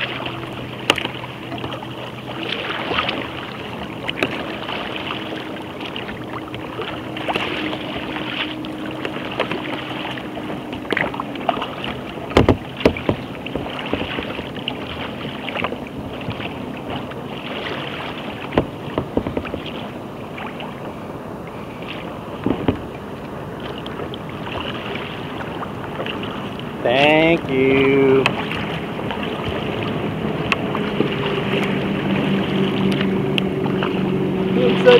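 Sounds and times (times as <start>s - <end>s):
water slapping against kayak hull: 0.0s - 34.9s.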